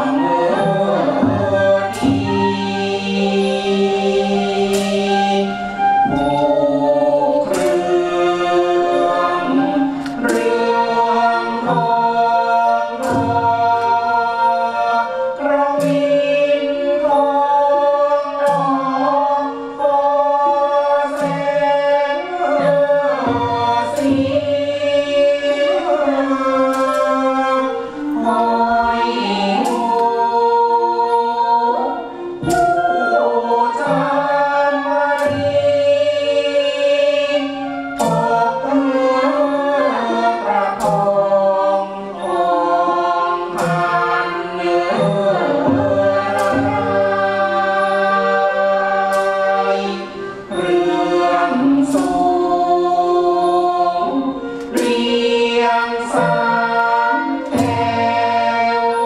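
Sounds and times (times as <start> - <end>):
choir singing held notes: 0.0 - 59.0
orchestral accompaniment: 0.0 - 59.0
sharp percussion stroke: 0.0 - 59.0.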